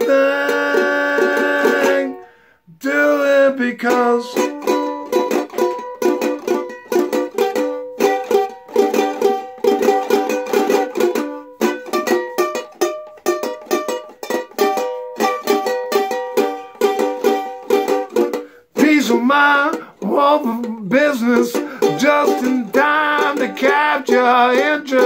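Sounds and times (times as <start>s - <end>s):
ukulele strumming chords: 0.0s - 25.0s.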